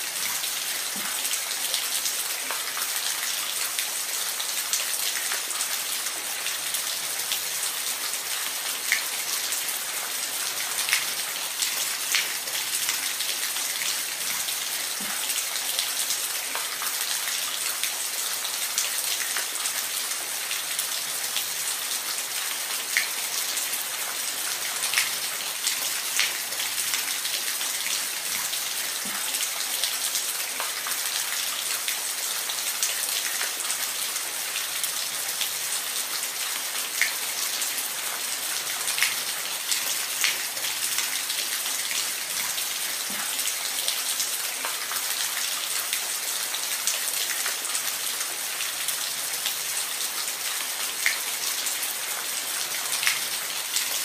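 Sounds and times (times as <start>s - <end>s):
water drips and splashes: 0.0s - 54.0s.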